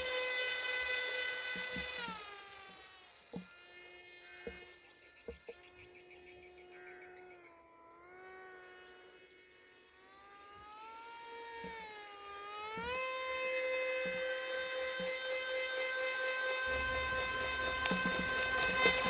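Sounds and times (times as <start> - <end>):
model plane motor whining: 0.0 - 19.0.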